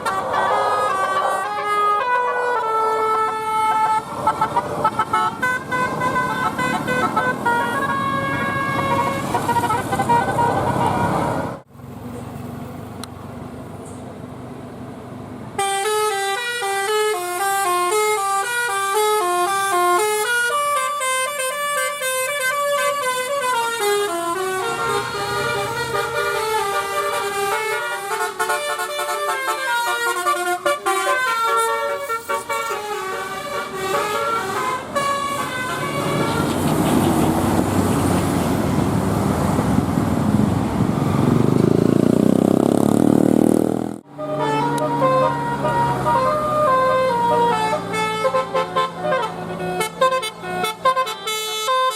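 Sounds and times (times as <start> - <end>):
bus horn playing a melody: 0.0 - 11.6, 15.6 - 38.2, 44.1 - 51.9
vehicle noise: 0.0 - 51.9.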